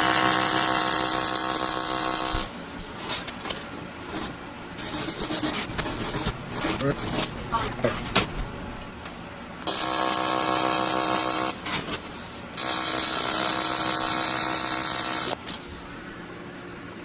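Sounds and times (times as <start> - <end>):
welding arc buzzing hiss: 0.0 - 7.4, 8.5 - 16.5.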